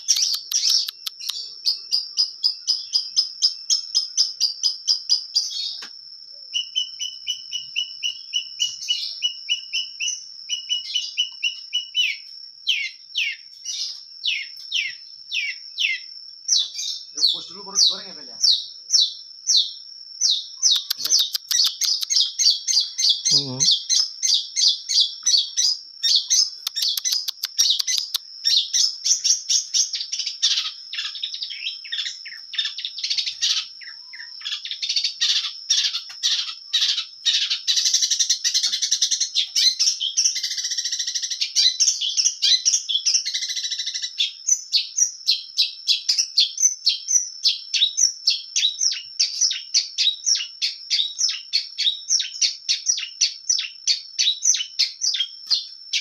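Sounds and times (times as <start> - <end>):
bird singing rapid chirps: 0.0 - 56.0.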